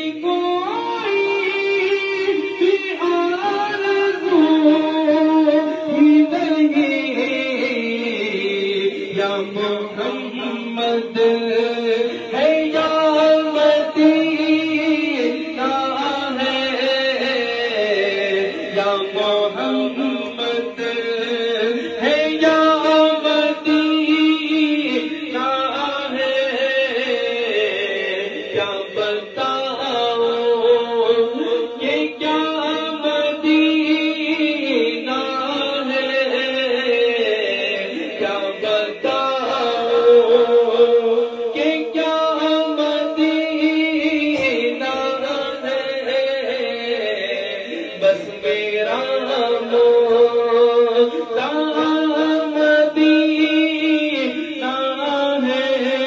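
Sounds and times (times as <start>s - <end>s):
men chanting through loudspeaker: 0.0s - 56.0s.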